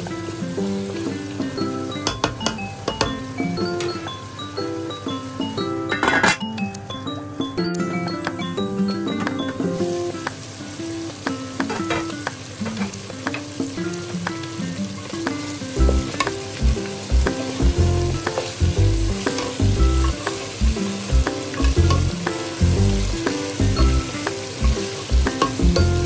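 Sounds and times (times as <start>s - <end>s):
meat sizzling in a pot: 0.0s - 5.9s, 8.0s - 26.0s
background music: 0.0s - 26.0s.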